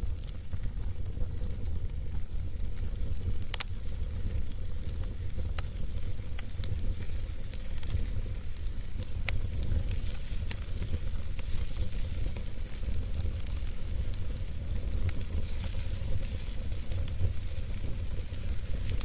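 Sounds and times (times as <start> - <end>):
fire crackling and popping: 0.0 - 19.0
fire rumbling and hissing: 0.0 - 19.0.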